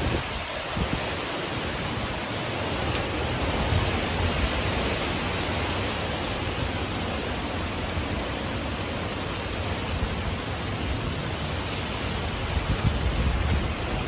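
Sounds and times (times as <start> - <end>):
storm wind rushing through trees: 0.0 - 14.0
wind buffeting microphone: 0.0 - 14.0.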